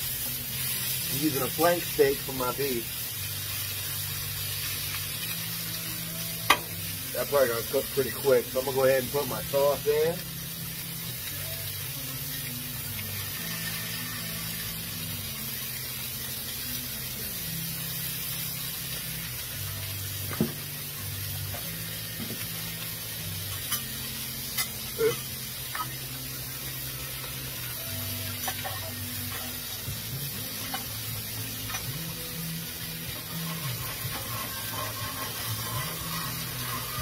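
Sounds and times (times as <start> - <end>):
steak sizzling on a griddle: 0.0 - 37.0.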